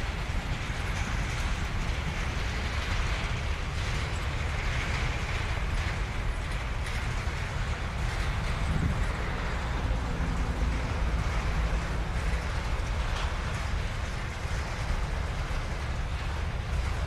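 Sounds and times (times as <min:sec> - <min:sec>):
freight train rumbling: 0:00.0 - 0:17.0
rail and wheel noise: 0:00.0 - 0:17.0.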